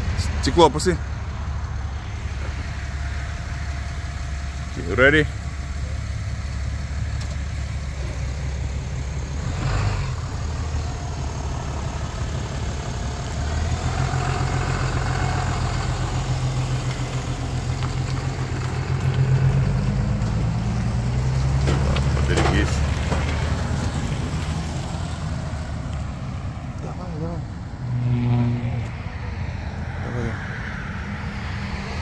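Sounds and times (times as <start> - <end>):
pickup truck engine idling: 0.0 - 27.8.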